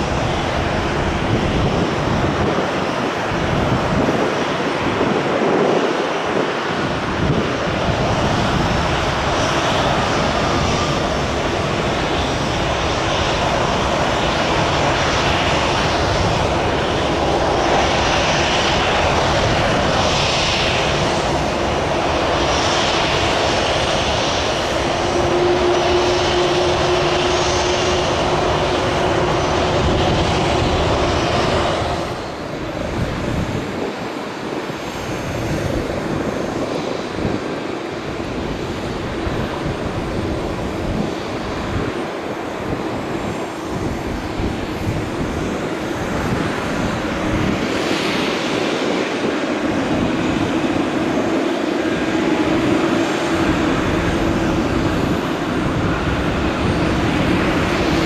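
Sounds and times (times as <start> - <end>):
faint engine whine: 0.0 - 58.0
jet engines roaring: 0.0 - 58.0.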